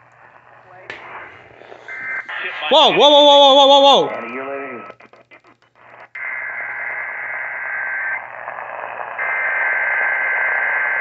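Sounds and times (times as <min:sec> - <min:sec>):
radio static: 0:00.2 - 0:11.0.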